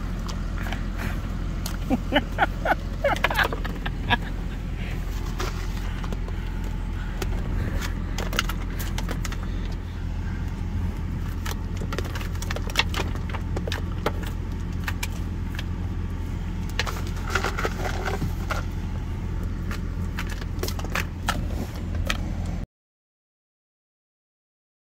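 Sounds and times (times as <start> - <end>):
truck engine idling: 0.0 - 22.6.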